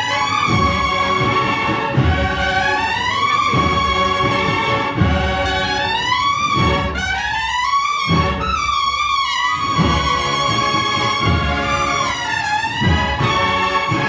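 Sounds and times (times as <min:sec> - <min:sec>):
heavy drum strokes: 0:00.0 - 0:08.7, 0:09.6 - 0:14.0
marching band brass melody: 0:00.0 - 0:14.0.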